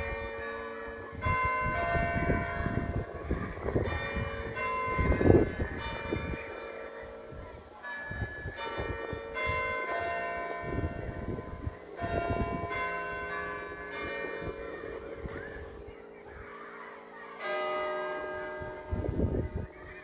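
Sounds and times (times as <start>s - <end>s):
church bells chiming: 0.0s - 20.0s.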